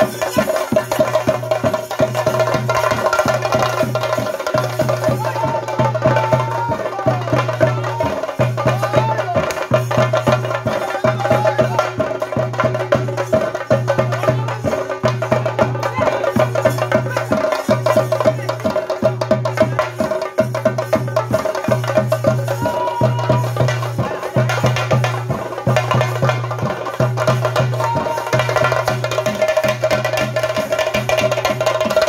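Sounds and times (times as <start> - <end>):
fast drumming with sticks: 0.0 - 32.0.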